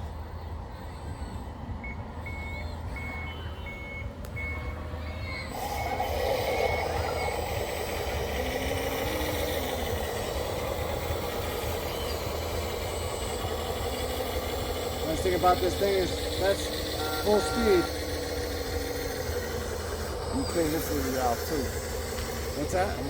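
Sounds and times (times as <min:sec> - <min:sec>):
reversing alarm beeps: 0:00.1 - 0:23.0
machine whirring: 0:04.4 - 0:23.0.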